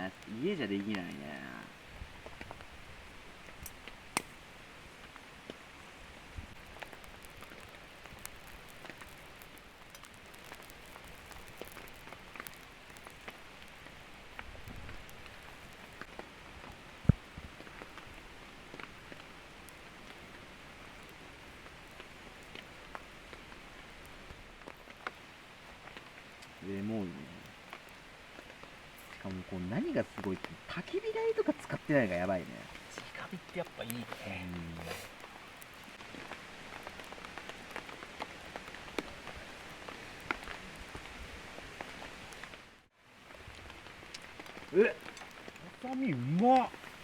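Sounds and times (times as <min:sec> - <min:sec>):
heavy rain pattering: 0:00.0 - 0:47.0.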